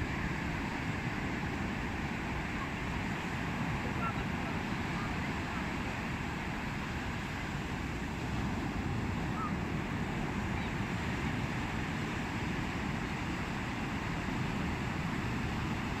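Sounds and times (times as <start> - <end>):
sea waves: 0.0 - 16.0
wind: 0.0 - 16.0.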